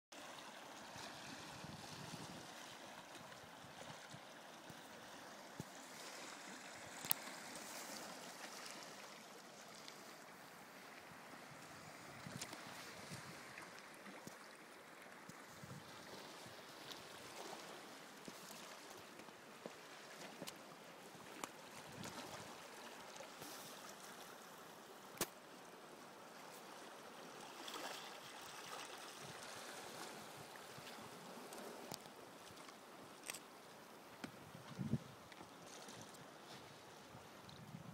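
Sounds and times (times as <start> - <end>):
water lapping among rocks: 0.2 - 37.7.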